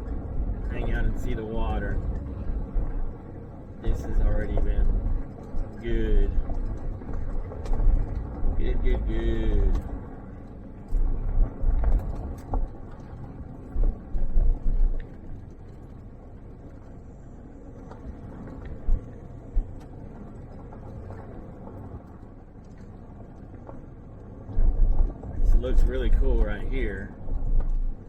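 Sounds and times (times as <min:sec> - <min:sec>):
vehicle rumbling on dirt road: 0:00.0 - 0:28.0.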